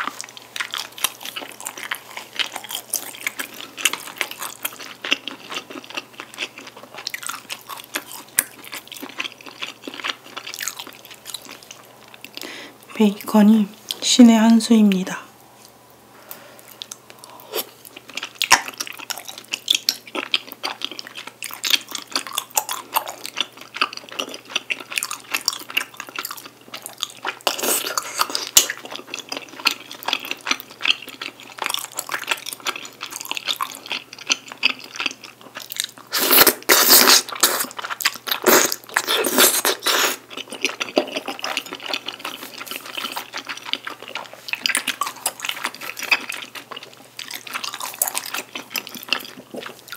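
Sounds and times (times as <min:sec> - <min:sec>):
person chewing wetly: 0:00.0 - 0:12.5, 0:16.3 - 0:49.9.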